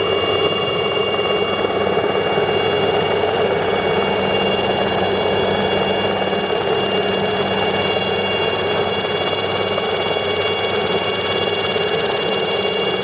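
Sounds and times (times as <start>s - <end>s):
helicopter rotor noise: 0.0s - 13.0s
helicopter turbine whine: 0.0s - 13.0s.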